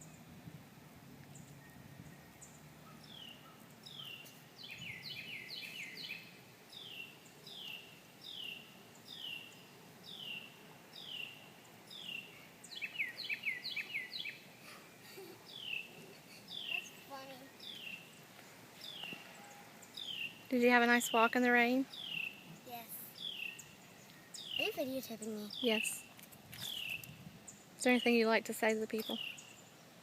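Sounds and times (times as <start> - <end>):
bird chirping: 1.2 - 30.0.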